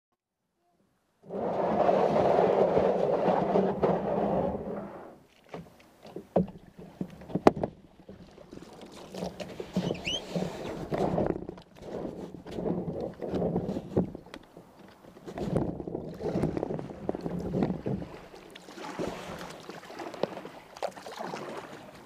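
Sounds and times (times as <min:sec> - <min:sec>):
kayak hull scraping over gravel: 0:01.2 - 0:05.5, 0:08.4 - 0:22.0
paddles splashing water: 0:01.2 - 0:22.0.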